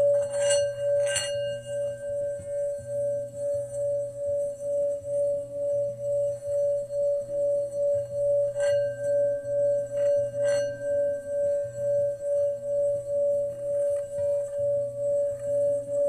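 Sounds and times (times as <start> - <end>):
singing bowl tone: 0.0 - 16.0.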